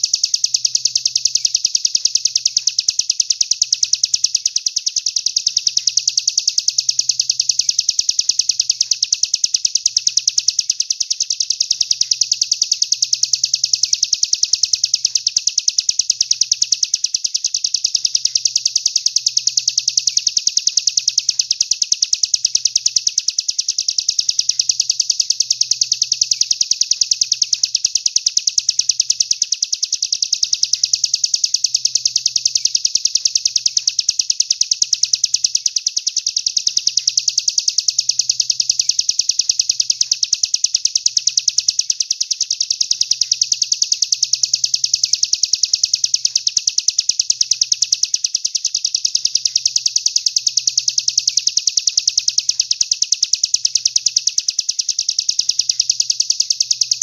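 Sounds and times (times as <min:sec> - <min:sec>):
songbird trilling: 0:00.0 - 0:52.9.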